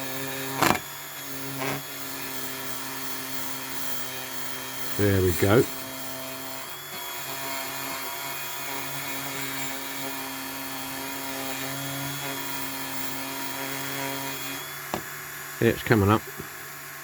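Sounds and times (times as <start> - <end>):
handheld power tool motor: 0.0 - 17.0.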